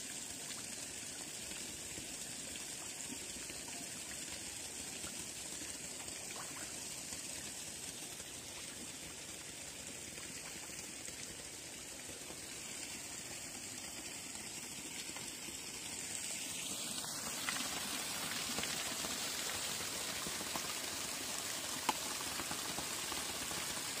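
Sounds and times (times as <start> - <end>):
water pouring from a pipe: 0.0 - 24.0.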